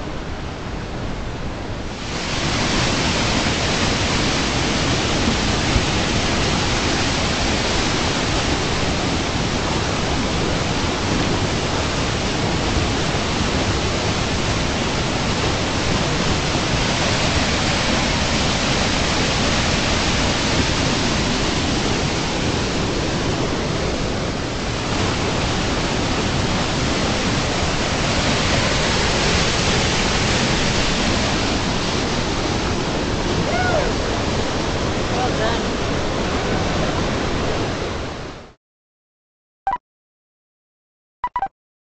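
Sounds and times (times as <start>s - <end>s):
whitewater rushing: 0.0s - 38.4s.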